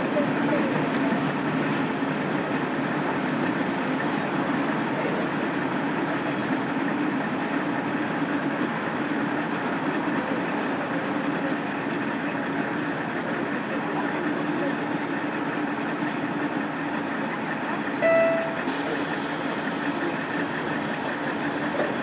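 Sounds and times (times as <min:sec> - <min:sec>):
railcar diesel engine running: 0:00.0 - 0:22.0.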